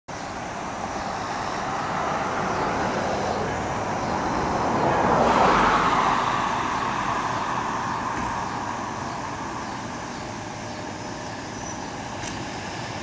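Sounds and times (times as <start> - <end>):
ambulance engine running: 0.1 - 13.0.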